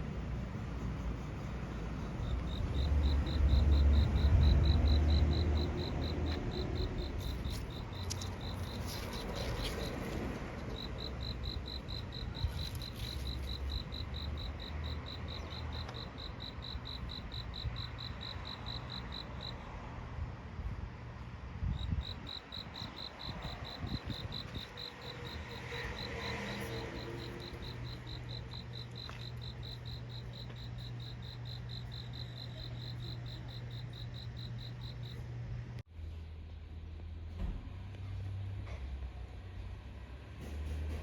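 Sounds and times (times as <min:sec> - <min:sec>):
insect chirping: 0:00.0 - 0:19.7, 0:21.7 - 0:35.2.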